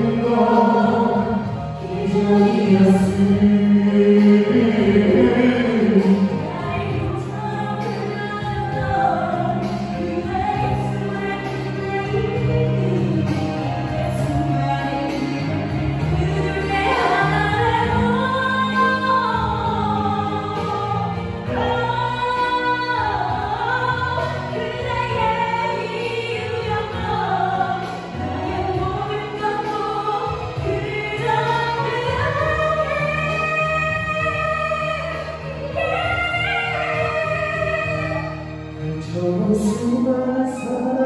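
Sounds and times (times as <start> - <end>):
instrumental accompaniment: 0.0 - 41.0
women singing pop ballad: 0.0 - 41.0.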